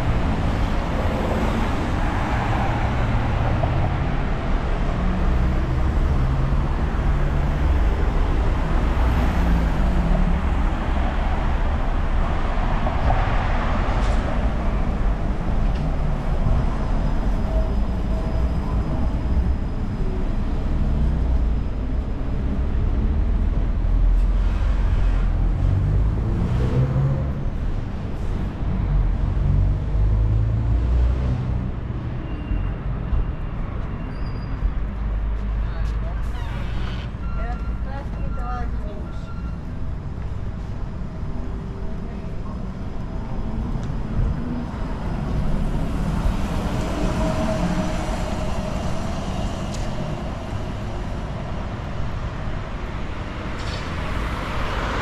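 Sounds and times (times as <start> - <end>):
road traffic driving past: 0.0 - 55.0.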